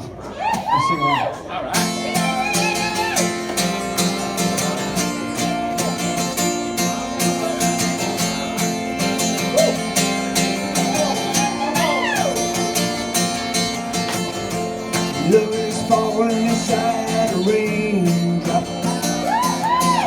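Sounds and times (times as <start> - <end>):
acoustic guitar strumming: 1.7 - 20.0.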